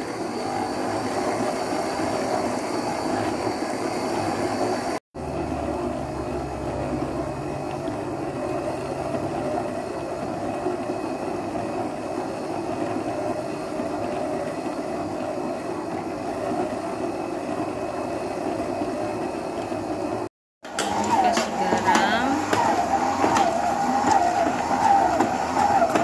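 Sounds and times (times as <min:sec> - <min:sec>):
electric stand mixer running: 0:00.0 - 0:26.0.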